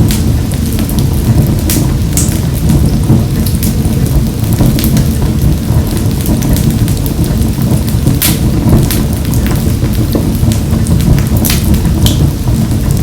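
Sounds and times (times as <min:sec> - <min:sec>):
wood fire crackling in a stove: 0:00.0 - 0:13.0.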